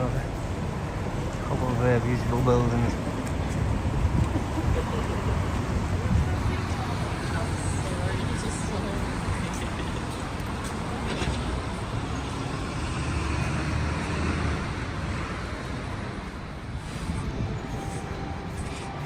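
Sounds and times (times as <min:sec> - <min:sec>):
heavy vehicle passing: 0:00.0 - 0:19.0
traffic rumble: 0:00.0 - 0:19.0.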